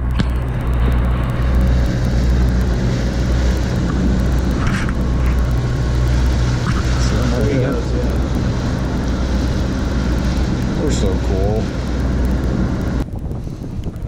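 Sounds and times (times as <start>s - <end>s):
boat engine drone: 0.0s - 14.0s
water rushing along hull: 0.0s - 14.0s.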